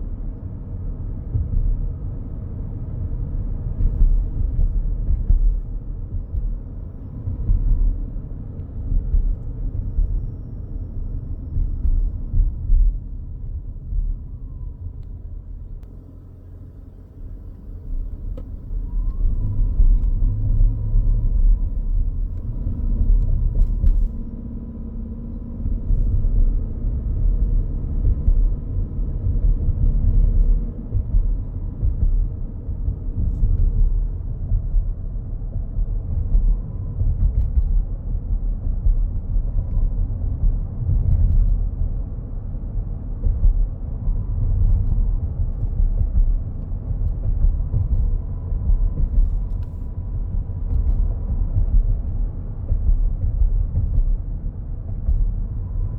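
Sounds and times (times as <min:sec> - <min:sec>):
car cabin road rumble: 0:00.0 - 0:55.9.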